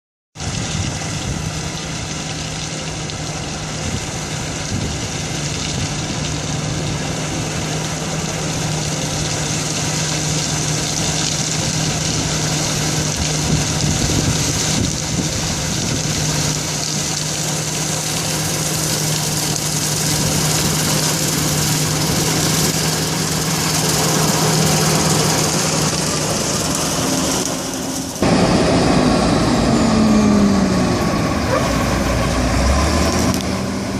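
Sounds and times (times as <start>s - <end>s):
engine with falling pitch: 0.4s - 33.9s
harvesting machine running: 0.4s - 33.9s.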